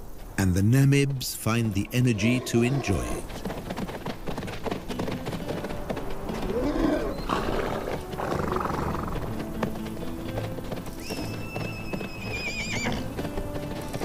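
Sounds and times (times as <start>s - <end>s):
horses calling: 1.4s - 14.0s.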